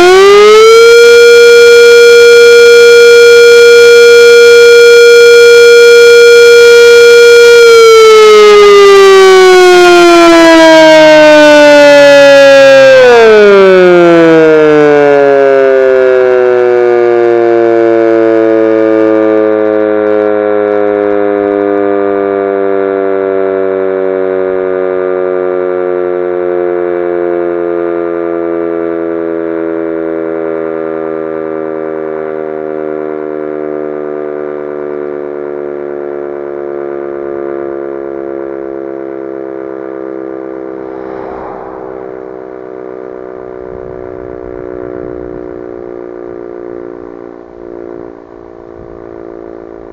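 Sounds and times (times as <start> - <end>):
warning siren winding down: 0.0 - 49.9.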